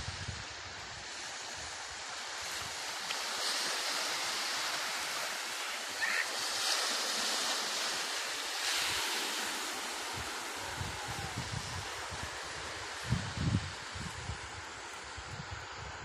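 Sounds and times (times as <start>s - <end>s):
small waves breaking on shore: 0.0s - 16.0s.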